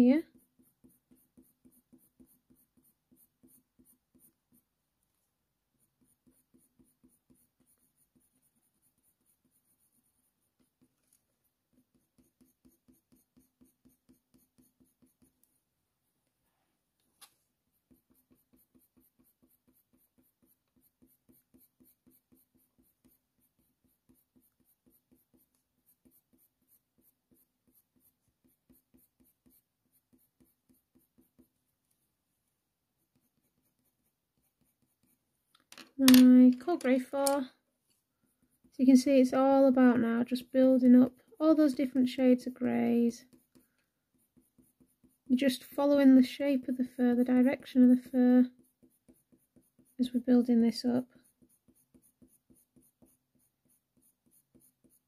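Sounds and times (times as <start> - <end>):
pencil scratching on paper: 0.0 - 55.0.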